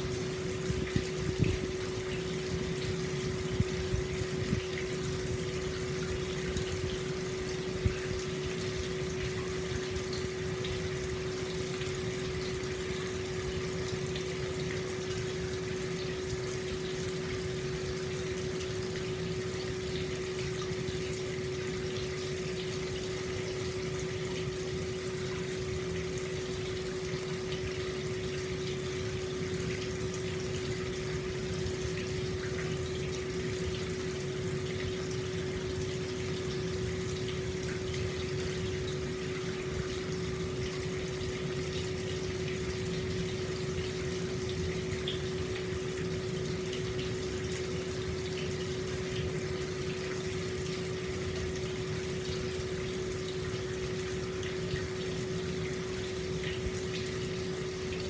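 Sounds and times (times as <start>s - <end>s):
water flowing into bath: 0.0s - 58.0s.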